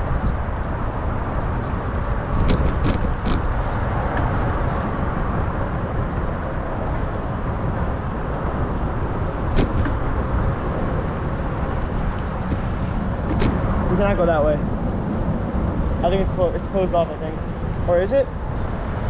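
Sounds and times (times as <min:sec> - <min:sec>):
city traffic noise: 0:00.0 - 0:19.0
wind rumbling on microphone: 0:00.0 - 0:19.0.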